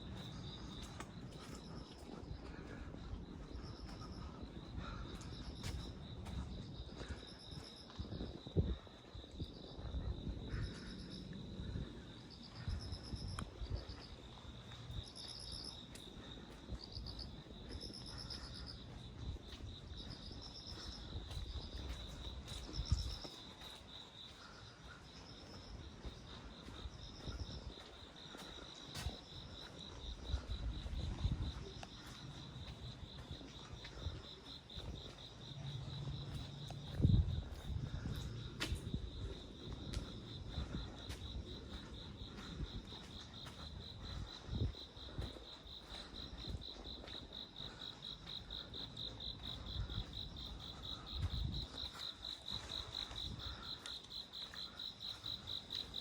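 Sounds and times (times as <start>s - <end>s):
cricket chirping in bursts: 0.0s - 56.0s.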